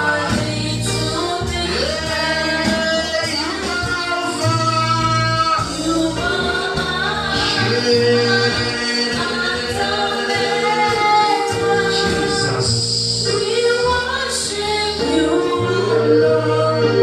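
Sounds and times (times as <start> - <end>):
congregation singing gospel song: 0.0 - 17.0.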